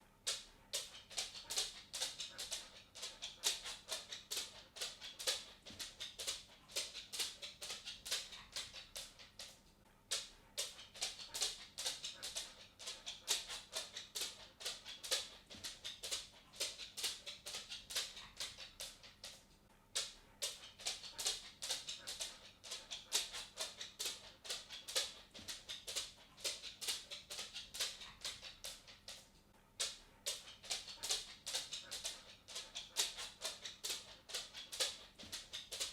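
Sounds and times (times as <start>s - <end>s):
cat paws tapping: 0.3s - 35.9s.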